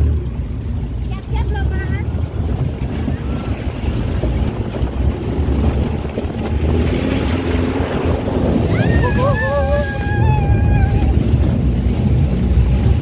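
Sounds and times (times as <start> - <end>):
jeep engine rumbling: 0.0 - 13.0
wind buffeting microphone: 0.0 - 13.0.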